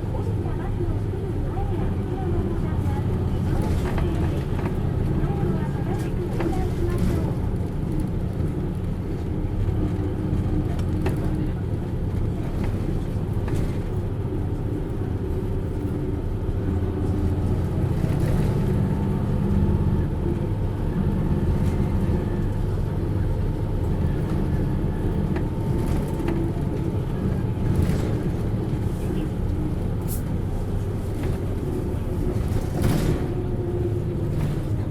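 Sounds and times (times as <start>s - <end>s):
bus engine drone: 0.0s - 34.9s.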